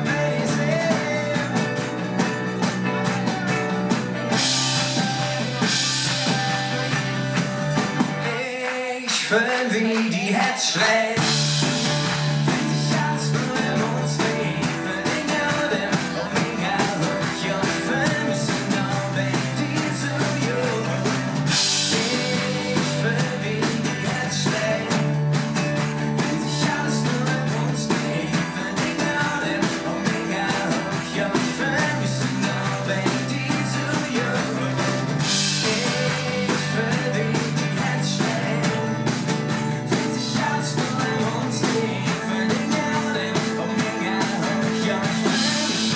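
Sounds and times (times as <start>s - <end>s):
steady bass line: 0.0s - 8.4s, 11.2s - 45.9s
piano: 0.0s - 8.8s, 11.2s - 45.9s
acoustic guitars strumming: 0.0s - 9.7s, 11.1s - 45.9s
electric guitar: 0.0s - 10.1s, 11.0s - 45.9s.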